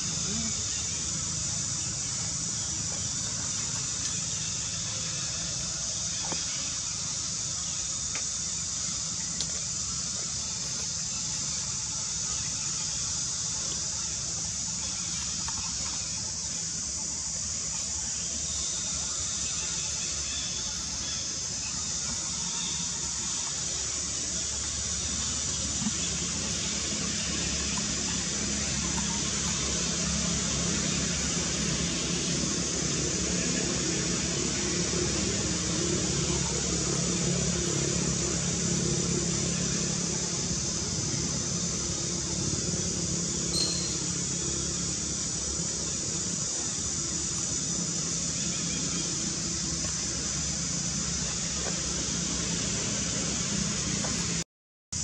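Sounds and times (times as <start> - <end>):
insect chorus droning: 0.0 - 54.4.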